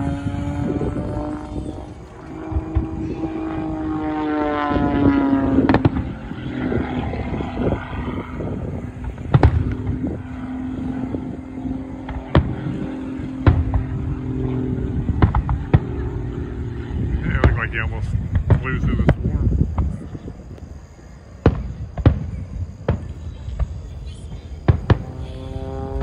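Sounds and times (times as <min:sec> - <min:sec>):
propeller plane droning overhead: 0:00.0 - 0:26.0.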